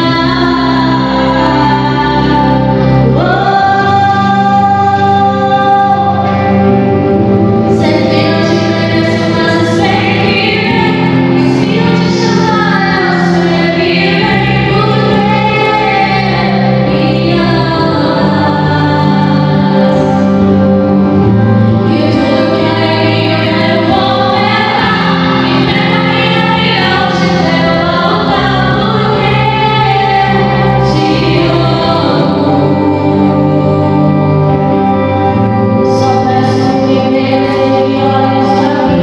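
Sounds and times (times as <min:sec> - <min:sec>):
group singing gospel song: 0:00.0 - 0:06.6, 0:07.7 - 0:20.6, 0:21.9 - 0:39.0.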